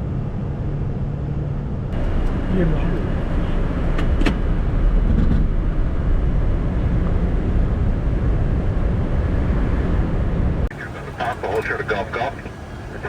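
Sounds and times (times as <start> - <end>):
aircraft cockpit rumble: 0.0 - 8.8, 10.6 - 13.0.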